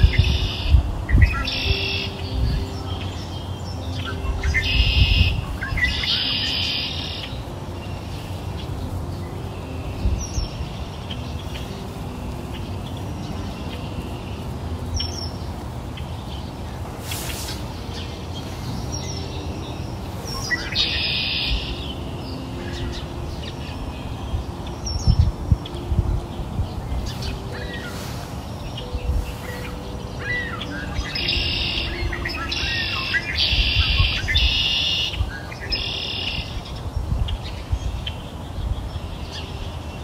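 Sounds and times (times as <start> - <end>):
birds chirping: 0.0 - 40.0
faint low background noise: 0.0 - 40.0.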